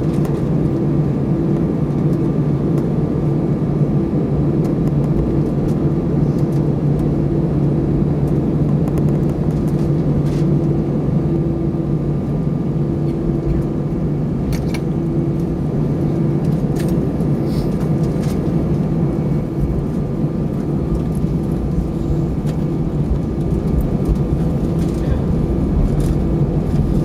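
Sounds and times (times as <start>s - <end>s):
air-conditioning hum: 0.0s - 27.0s
aircraft engines idling: 0.0s - 27.0s.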